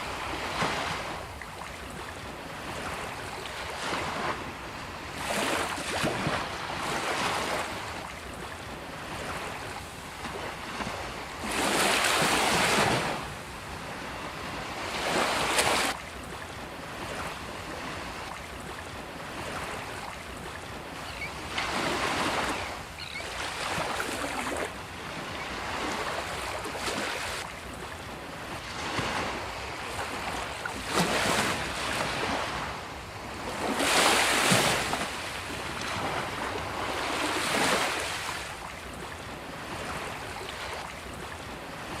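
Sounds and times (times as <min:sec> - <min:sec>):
sea waves breaking on a beach: 0:00.0 - 0:42.0.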